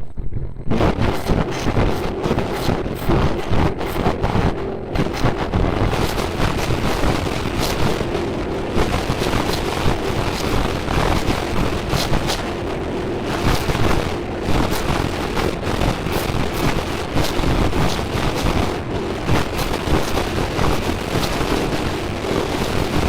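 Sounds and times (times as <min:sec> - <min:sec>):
loud steady rumbling: 0:00.0 - 0:23.0.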